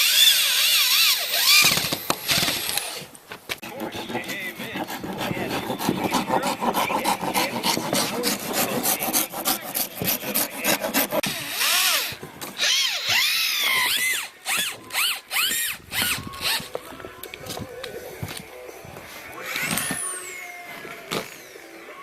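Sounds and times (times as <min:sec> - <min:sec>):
wood scraping and rasping: 0:00.6 - 0:21.5.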